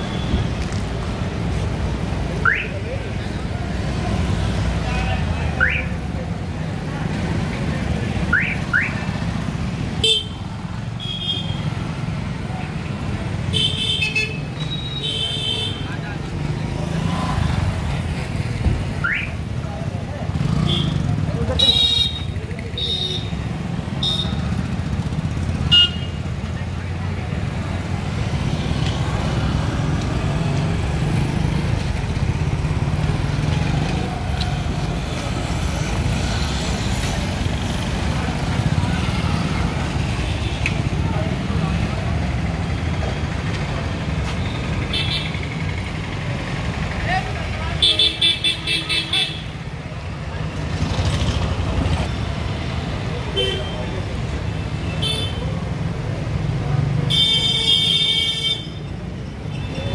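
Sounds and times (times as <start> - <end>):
motorcycles passing: 0.0 - 13.9, 14.5 - 59.9
traffic engine rumble: 0.0 - 59.9.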